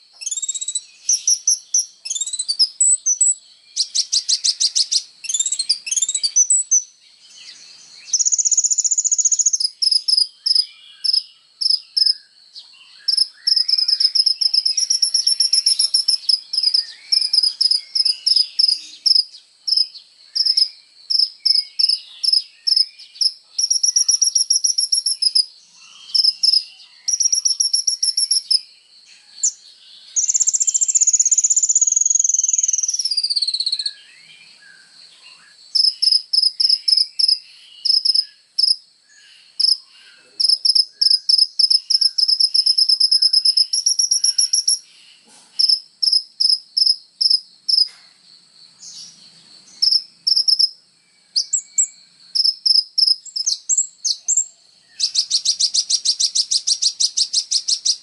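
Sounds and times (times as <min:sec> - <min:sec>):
sunbird chirps and trills: 0:00.0 - 0:58.0.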